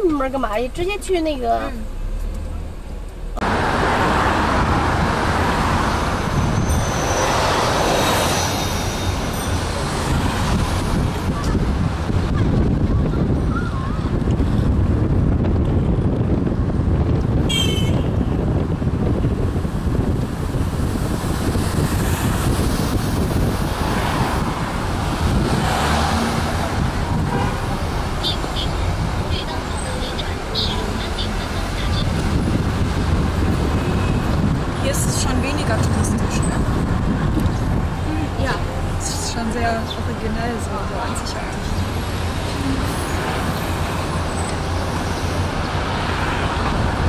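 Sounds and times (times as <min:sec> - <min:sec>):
engine and tyres rumbling: 0:00.0 - 0:47.0
street traffic: 0:00.0 - 0:47.0
large vehicle passing: 0:01.8 - 0:17.0, 0:18.4 - 0:47.0
wind on microphone: 0:04.1 - 0:47.0.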